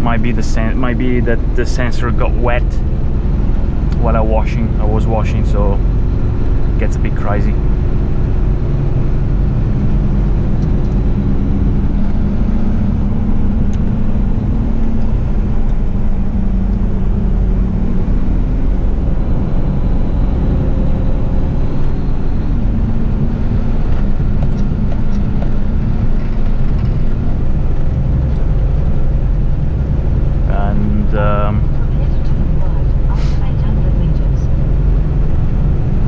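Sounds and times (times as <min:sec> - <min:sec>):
garbage truck diesel engine running: 0:00.0 - 0:36.0.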